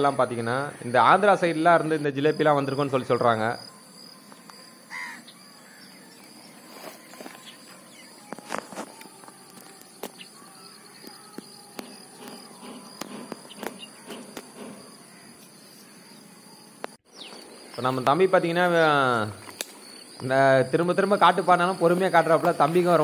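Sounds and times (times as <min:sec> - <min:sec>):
faint chirps: 0:00.0 - 0:23.0
high insect drone: 0:00.0 - 0:23.0.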